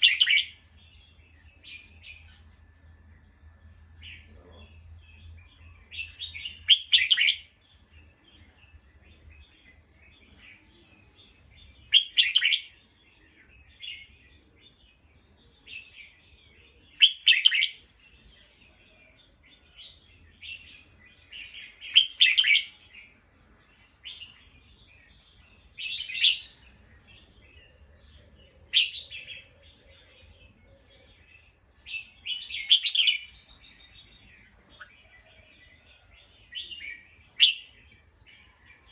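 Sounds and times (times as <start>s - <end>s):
bird singing liquid phrases: 0.0s - 38.9s
quiet bird chirps: 0.0s - 38.9s.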